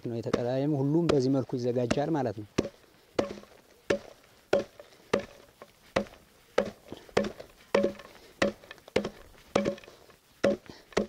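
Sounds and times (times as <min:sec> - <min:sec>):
axe chopping stalks: 0:00.0 - 0:11.0.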